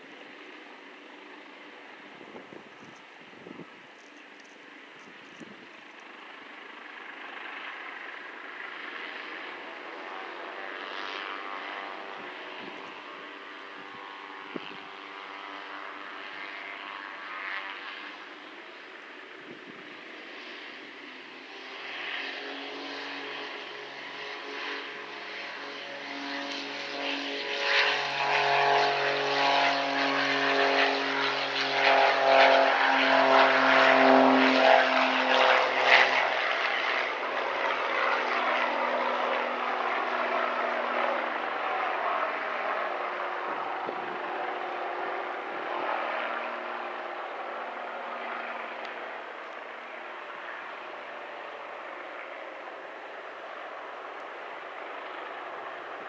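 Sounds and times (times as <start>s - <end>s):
aircraft engines humming: 0.0s - 56.0s.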